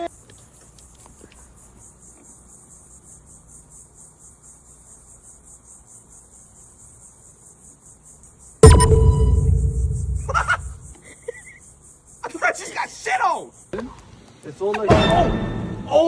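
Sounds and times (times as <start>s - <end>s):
crickets chirping: 0.3s - 13.7s.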